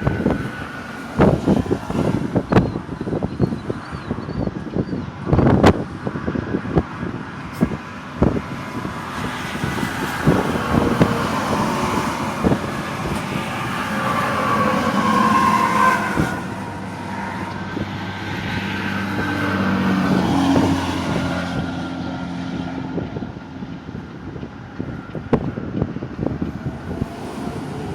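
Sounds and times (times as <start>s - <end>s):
road noise: 0.0s - 27.9s
truck engine: 4.8s - 27.9s.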